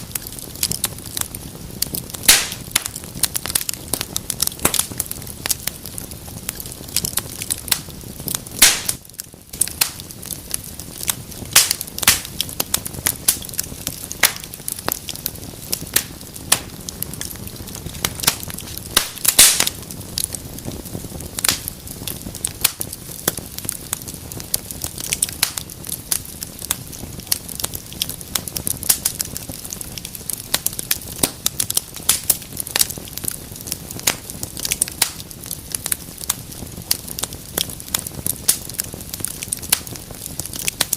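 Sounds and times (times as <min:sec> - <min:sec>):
fire hissing: 0:00.0 - 0:40.9
fire popping and snapping: 0:00.0 - 0:40.9.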